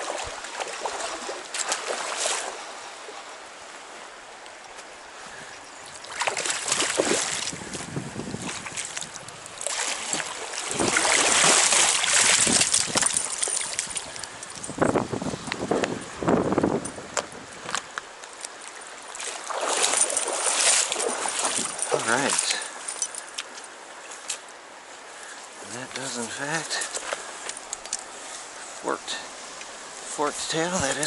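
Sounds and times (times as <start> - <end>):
river water splashing and rushing: 0.0 - 31.0.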